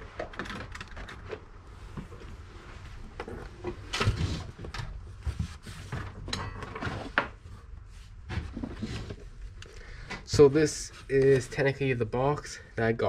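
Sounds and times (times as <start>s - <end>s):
handling knocks and rustling: 0.0s - 11.8s.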